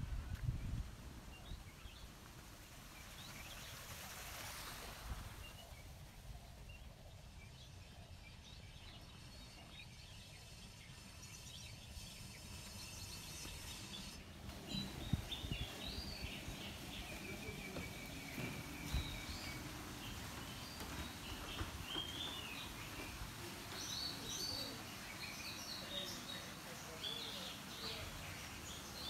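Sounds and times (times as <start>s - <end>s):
faint steady hiss: 0.0s - 29.0s
birds chirping: 0.2s - 29.0s.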